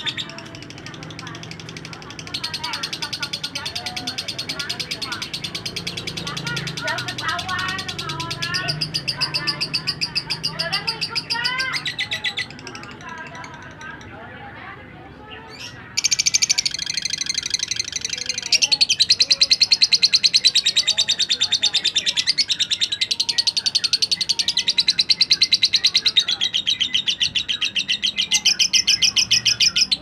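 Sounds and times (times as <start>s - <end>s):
bird singing a rapid trill: 0.0s - 14.3s, 15.3s - 30.0s.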